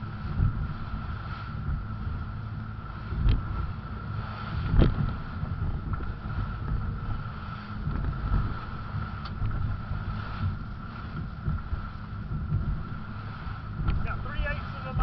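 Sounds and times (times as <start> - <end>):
boat engine rumble: 0.0 - 15.0
constant high hum: 0.0 - 15.0
wind buffeting microphone: 0.0 - 15.0.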